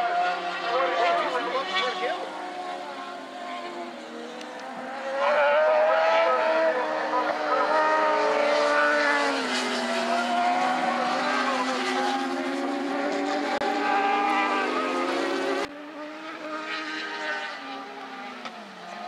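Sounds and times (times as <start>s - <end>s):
motorcycle engines revving hard: 0.0s - 19.0s.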